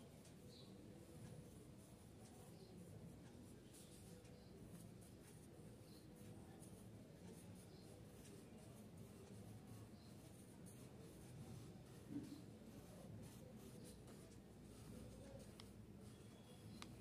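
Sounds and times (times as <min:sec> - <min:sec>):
pencil scratching on paper: 0:00.2 - 0:17.0.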